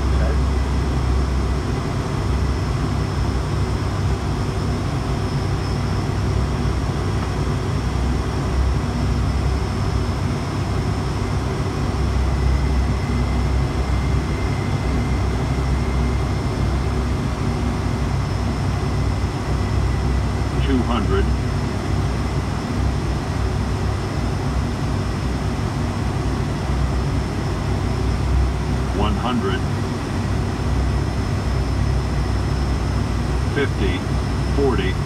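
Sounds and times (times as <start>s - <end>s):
airflow over cockpit: 0.0s - 35.0s
turboprop engine drone: 0.0s - 35.0s.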